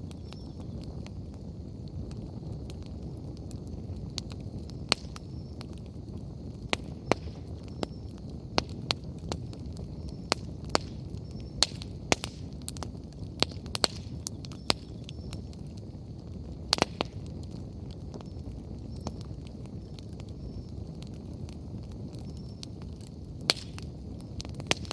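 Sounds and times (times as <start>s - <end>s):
firewood popping and crackling: 0.0s - 24.9s
flames rustling: 0.0s - 24.9s.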